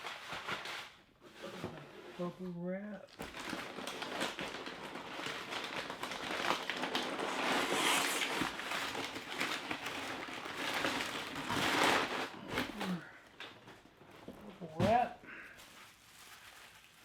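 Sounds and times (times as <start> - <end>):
bubble wrap and paper crinkling: 0.0 - 17.0.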